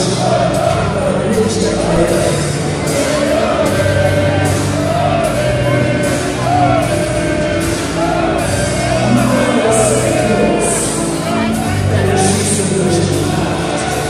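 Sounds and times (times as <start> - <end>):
song echoing in stadium: 0.0 - 14.0.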